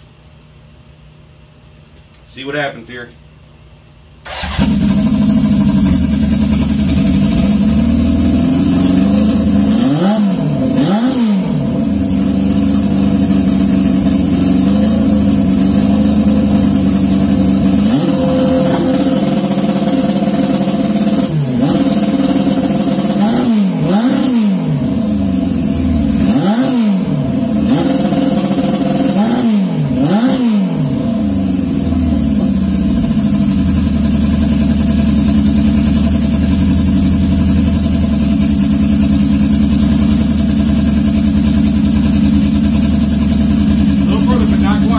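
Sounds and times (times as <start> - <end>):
motorcycle engine revving: 4.2 - 44.9.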